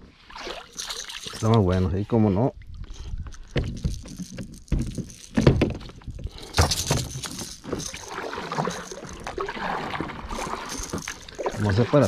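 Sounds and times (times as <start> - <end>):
fishing lure rattling: 0.4 - 1.8, 2.9 - 12.0.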